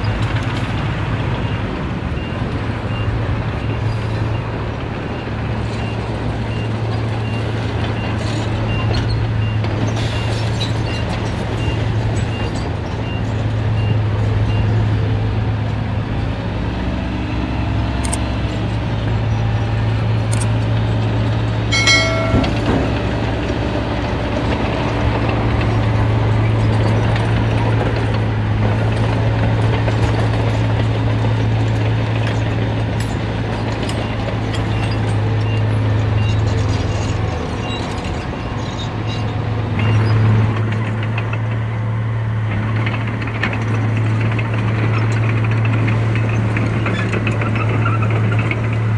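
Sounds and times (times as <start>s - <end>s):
diesel machinery engine hum: 0.0s - 48.9s.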